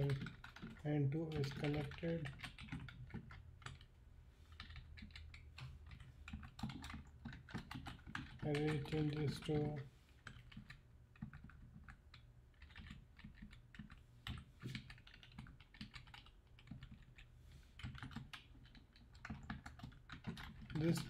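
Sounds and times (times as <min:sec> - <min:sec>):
typing on keyboard: 0:00.0 - 0:03.9, 0:04.5 - 0:21.0.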